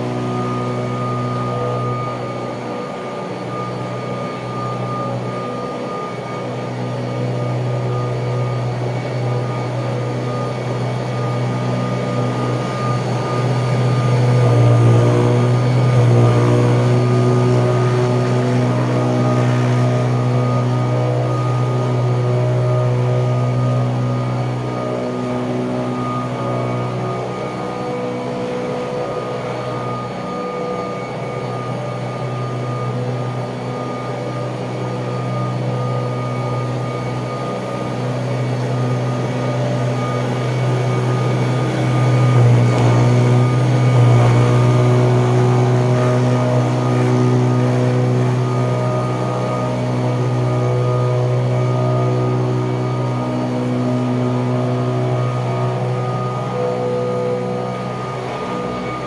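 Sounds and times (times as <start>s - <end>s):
vacuum cleaner drone: 0.0s - 59.0s.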